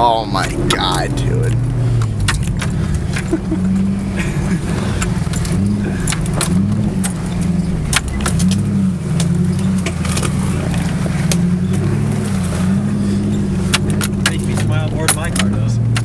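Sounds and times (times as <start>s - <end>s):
engine running at low revs: 0.0s - 16.0s
sharp knocks and rattles: 0.3s - 3.9s, 4.6s - 12.6s, 13.3s - 16.0s.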